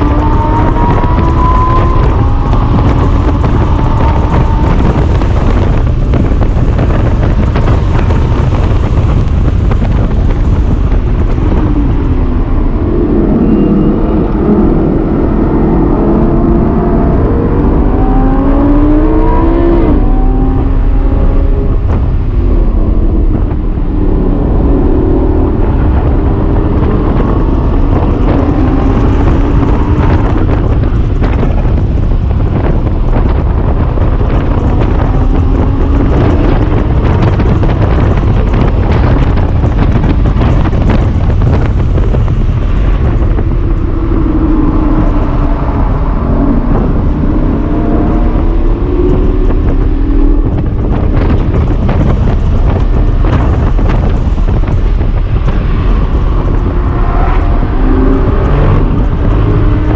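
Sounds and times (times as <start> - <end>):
sports car engine revving: 0.0 - 59.9
wind and road noise: 0.0 - 59.9.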